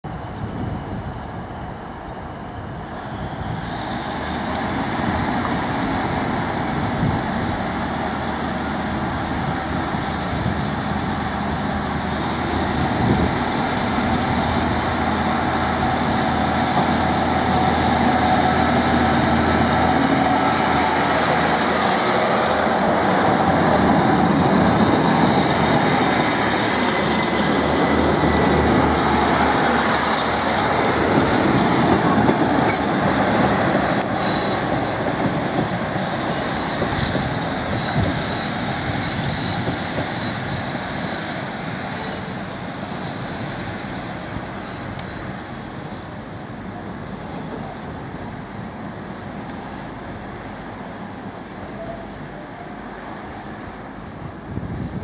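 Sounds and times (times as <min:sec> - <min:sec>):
train diesel engine throttling up: 0:00.1 - 0:54.4.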